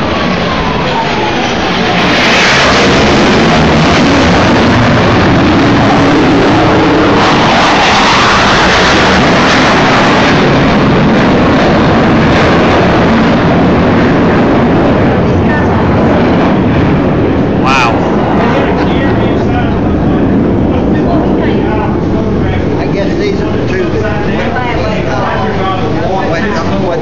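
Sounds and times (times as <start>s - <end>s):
jet flying low pass: 0.0s - 27.0s.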